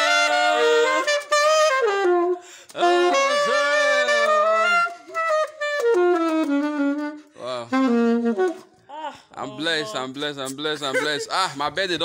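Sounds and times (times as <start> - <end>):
solo saxophone: 0.0 - 10.0.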